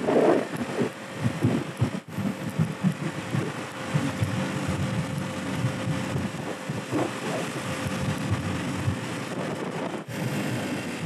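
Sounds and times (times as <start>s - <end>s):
wind buffeting the microphone: 0.0s - 11.0s
moped engine running: 1.2s - 9.4s, 10.1s - 11.0s.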